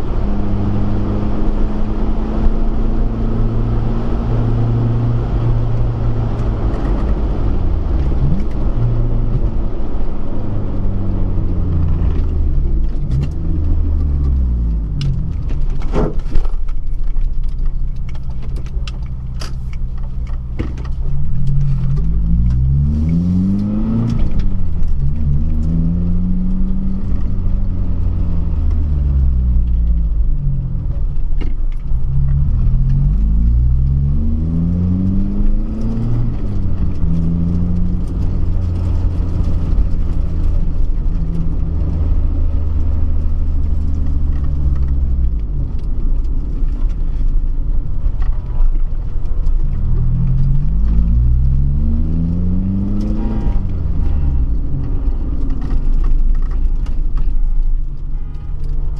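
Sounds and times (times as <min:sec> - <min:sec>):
car engine accelerating through gears: 0:00.0 - 0:16.0, 0:17.1 - 0:58.9.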